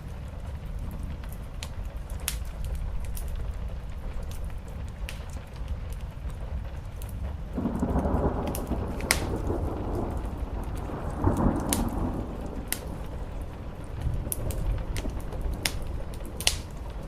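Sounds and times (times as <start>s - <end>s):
steady rain: 0.0s - 17.0s
thunder rumbling: 0.0s - 17.0s
wood fire crackling: 0.0s - 17.0s.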